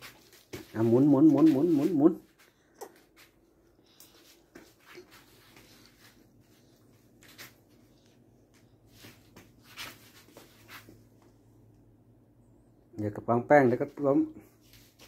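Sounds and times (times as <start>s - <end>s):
faint rustles and soft knocks: 0.0s - 11.9s, 13.5s - 15.0s
low steady hum: 0.0s - 15.0s.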